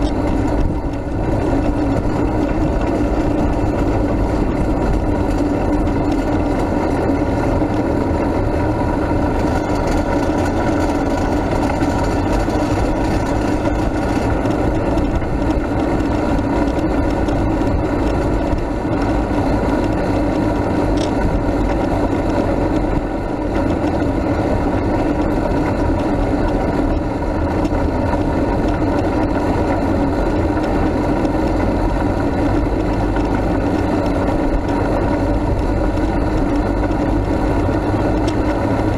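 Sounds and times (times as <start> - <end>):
low-speed engine and rolling noise: 0.0 - 38.9.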